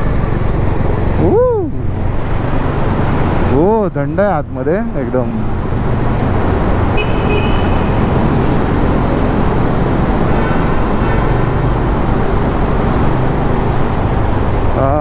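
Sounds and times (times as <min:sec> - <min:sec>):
motorcycle engine and road noise: 0:00.0 - 0:15.0
surrounding traffic: 0:00.0 - 0:15.0.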